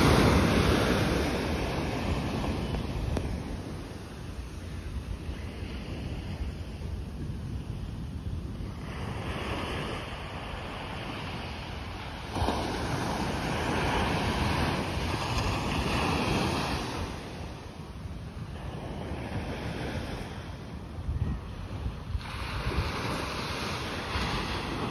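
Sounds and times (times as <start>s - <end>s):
waves breaking on beach: 0.0s - 24.9s
wind buffeting microphone: 0.0s - 24.9s.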